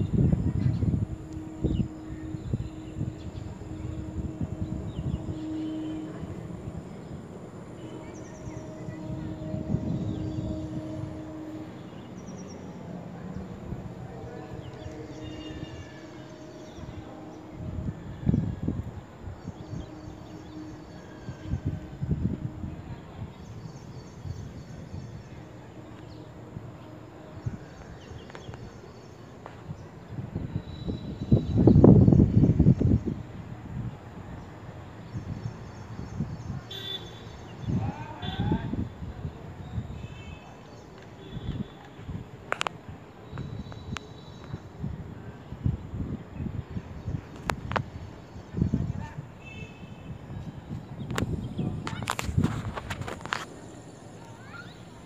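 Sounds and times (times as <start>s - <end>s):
low rumbling wind gusts: 0.0s - 40.4s, 41.1s - 55.0s
steady outdoor hiss: 0.0s - 55.0s.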